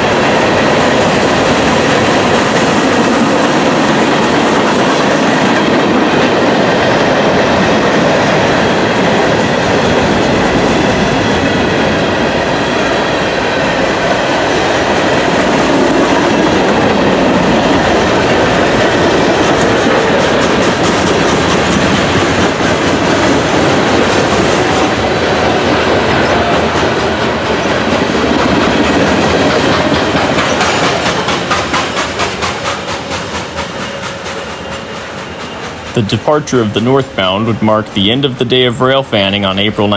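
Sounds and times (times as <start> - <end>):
train wheels rumbling on rail: 0.0 - 39.9
wheels clickety-clack over rail joints: 0.0 - 39.9.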